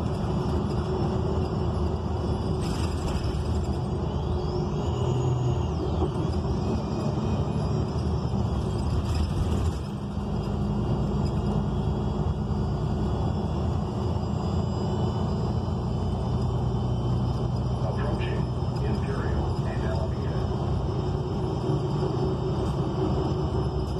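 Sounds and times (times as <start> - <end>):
bus engine low rumble: 0.0 - 23.9.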